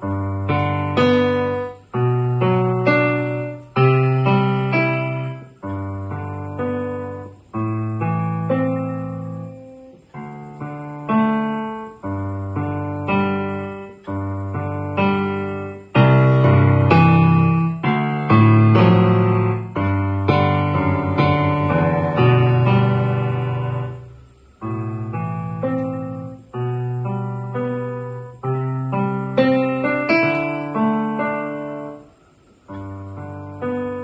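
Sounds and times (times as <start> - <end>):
digital piano chords: 0.0 - 34.0.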